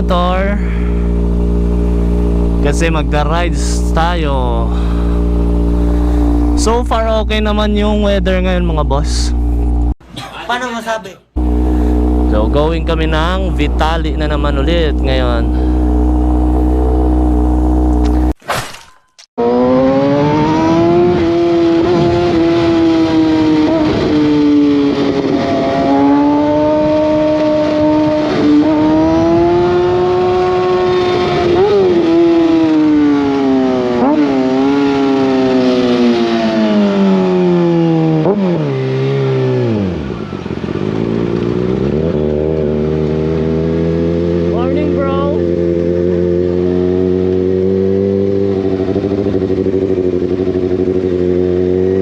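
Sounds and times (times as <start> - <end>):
motorcycle engine revving: 0.0 - 10.0, 11.3 - 18.4, 19.4 - 52.0.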